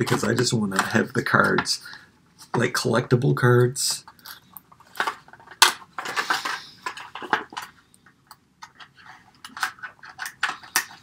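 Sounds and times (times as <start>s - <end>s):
plastic packaging clicking and crinkling: 0.0s - 3.1s, 4.0s - 11.0s.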